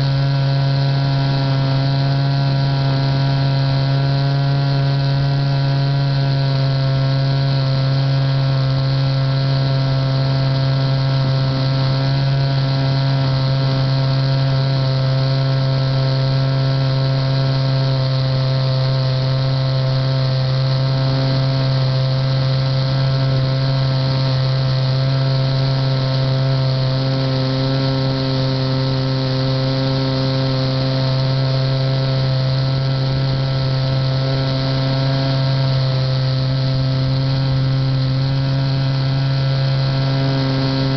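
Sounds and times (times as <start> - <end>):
model airplane motor and propeller: 0.0 - 40.9.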